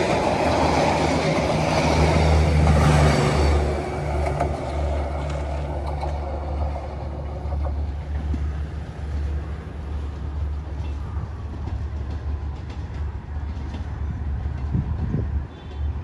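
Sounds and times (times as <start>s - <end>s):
train rumbling: 0.0s - 16.0s
wheels clicking on rails: 0.0s - 16.0s.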